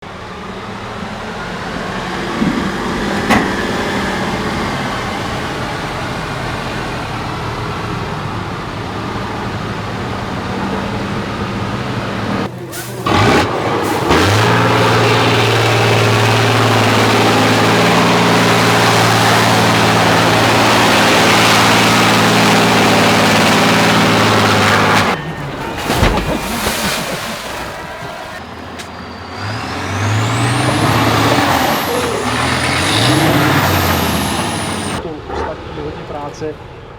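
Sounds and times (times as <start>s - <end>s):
diesel truck engines revving: 0.0s - 36.9s.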